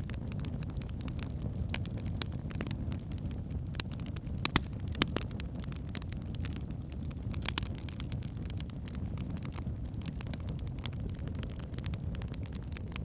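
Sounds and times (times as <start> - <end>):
logs crackling and popping: 0.0 - 13.0
wood fire rumbling: 0.0 - 13.0.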